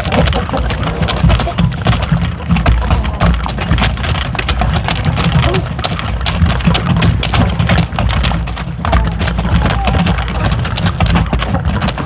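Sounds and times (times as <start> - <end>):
hens clucking: 0.0 - 12.0
sharp taps and clicks: 0.0 - 12.0.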